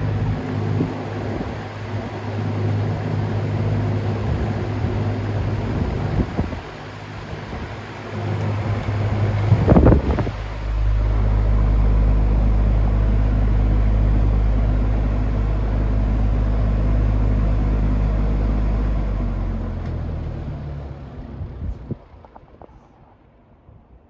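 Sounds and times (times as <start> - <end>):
box fan motor hum: 0.0 - 22.2
fan air rushing: 0.0 - 23.3.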